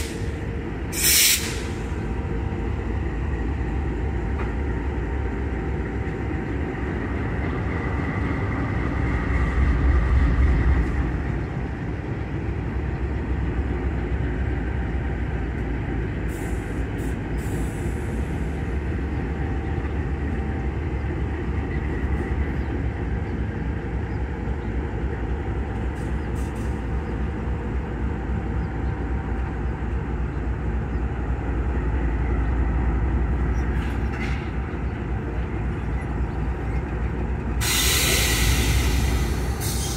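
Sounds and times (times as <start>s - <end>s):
locomotive engine rumble: 0.0s - 39.9s.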